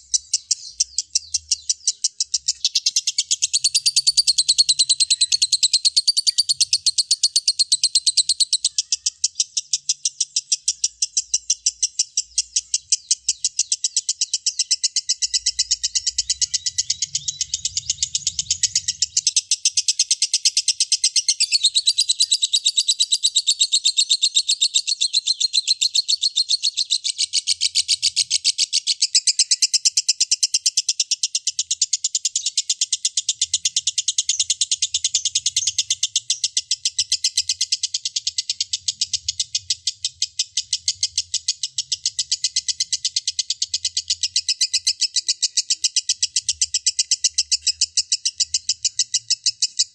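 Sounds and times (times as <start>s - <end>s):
lovebird chattering trill: 0.0s - 49.9s.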